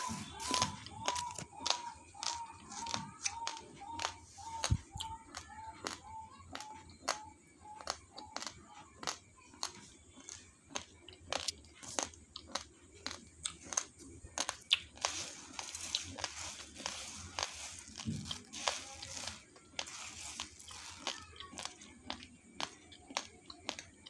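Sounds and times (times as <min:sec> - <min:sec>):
fingers stirring dry rice: 0:00.0 - 0:24.0
rice grains crunched by teeth: 0:00.0 - 0:24.0.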